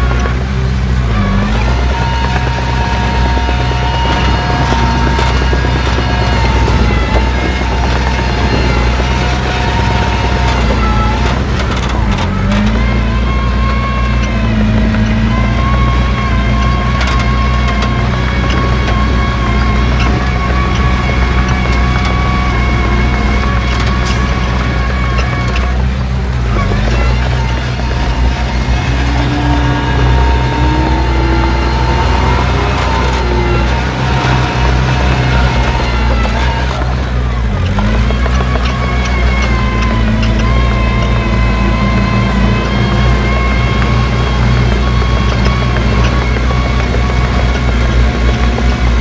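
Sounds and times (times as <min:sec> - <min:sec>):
bulldozer diesel engine running: 0:00.0 - 0:49.0.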